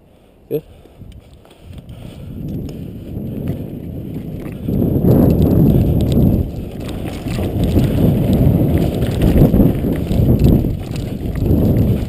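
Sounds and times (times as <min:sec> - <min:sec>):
bike tyres rumbling: 0:00.0 - 0:12.0
wind buffeting microphone: 0:00.0 - 0:12.0
bike rattling and knocking: 0:01.2 - 0:12.0.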